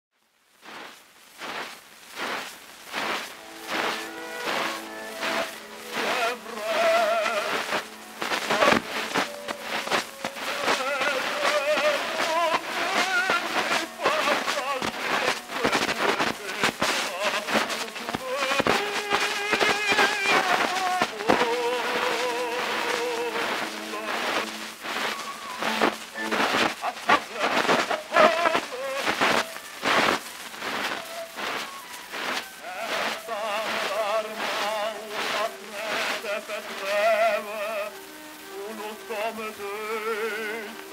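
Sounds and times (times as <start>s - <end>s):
surface hiss and crackle: 0.2s - 40.9s
man singing with vibrato: 3.4s - 29.8s, 32.6s - 40.9s.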